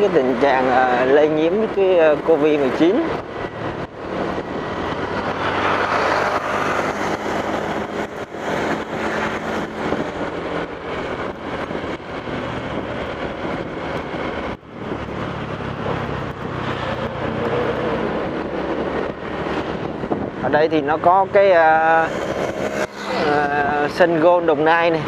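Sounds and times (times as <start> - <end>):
highway traffic: 0.0 - 25.0.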